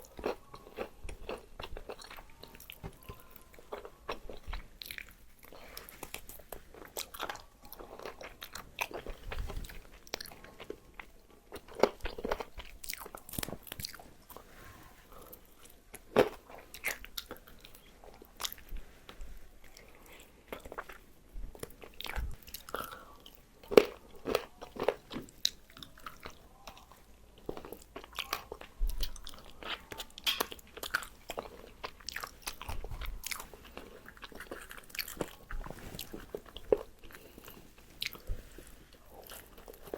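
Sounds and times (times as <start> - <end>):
chewing crispy fried chicken: 0.0 - 14.5, 15.1 - 39.9.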